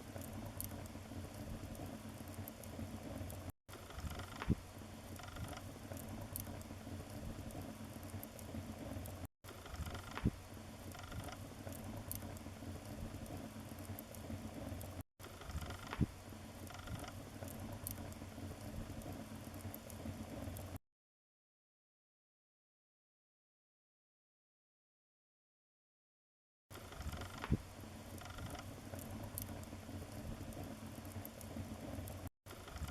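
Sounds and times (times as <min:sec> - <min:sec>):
wood fire crackling: 0:00.0 - 0:20.8, 0:26.8 - 0:32.9.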